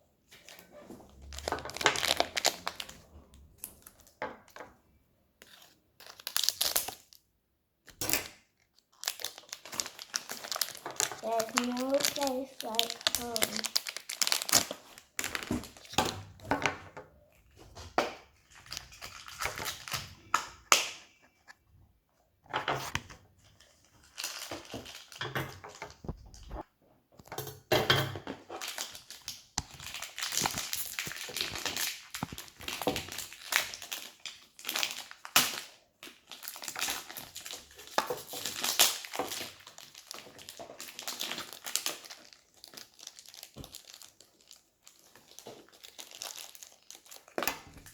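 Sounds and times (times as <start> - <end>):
plastic packaging crinkling: 0.3 - 4.6, 5.4 - 7.2, 8.0 - 16.6, 17.5 - 21.0, 23.5 - 26.6, 28.4 - 47.9.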